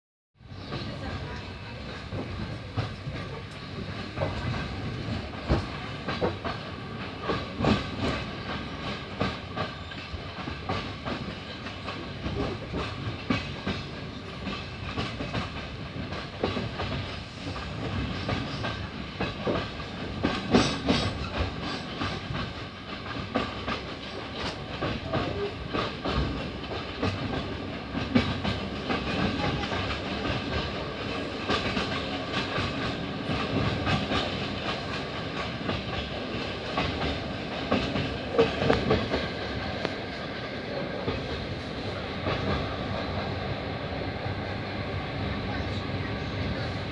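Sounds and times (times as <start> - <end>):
train rumbling on rails: 0.4 - 46.9.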